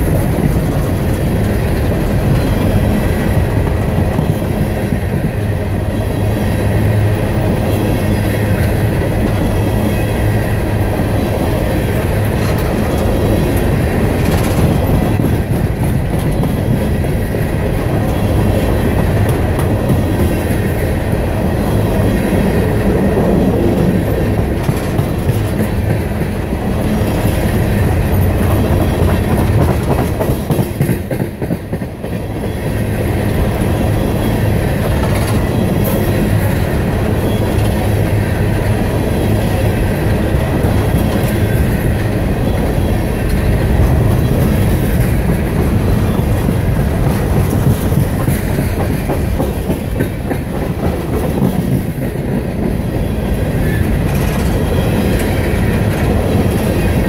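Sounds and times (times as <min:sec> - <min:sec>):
freight train rumbling past: 0:00.0 - 0:57.0
wheels clicking over rail joints: 0:08.5 - 0:32.5, 0:33.4 - 0:57.0.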